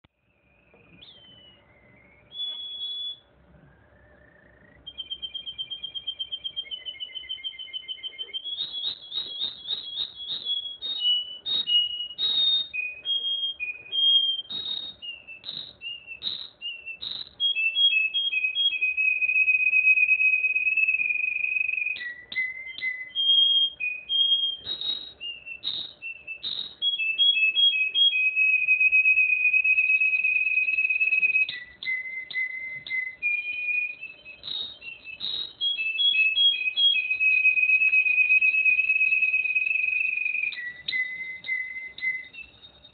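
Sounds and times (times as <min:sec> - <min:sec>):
canary singing: 0:00.3 - 0:42.9.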